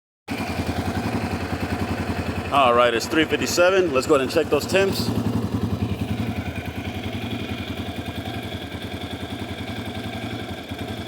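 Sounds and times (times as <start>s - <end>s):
engine idling: 0.3s - 11.0s.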